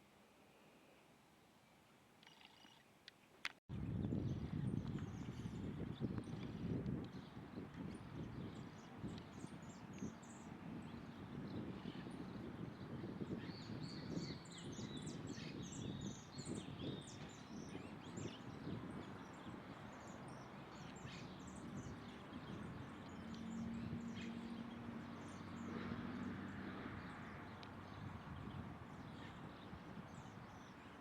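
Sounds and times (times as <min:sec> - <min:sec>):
small birds chirping: 0:00.5 - 0:31.0.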